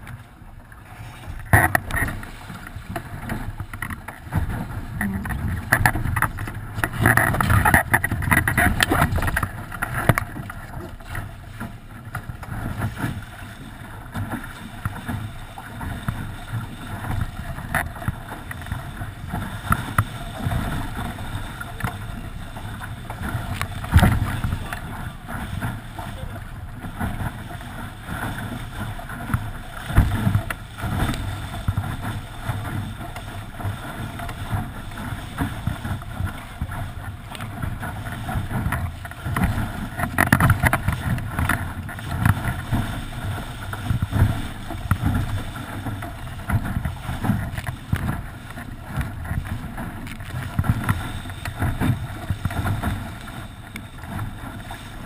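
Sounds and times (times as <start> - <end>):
hull slapping waves: 0.0 - 55.0
water rushing along hull: 0.0 - 55.0.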